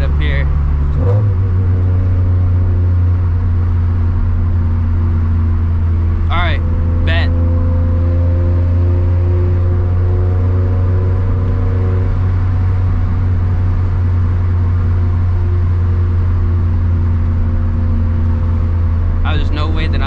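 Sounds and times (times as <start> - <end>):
car engine and exhaust droning: 0.0 - 20.0.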